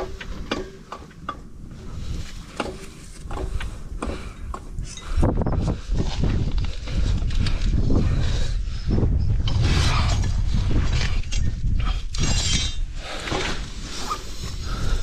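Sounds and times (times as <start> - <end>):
wind rumble on microphone: 1.3 - 15.0.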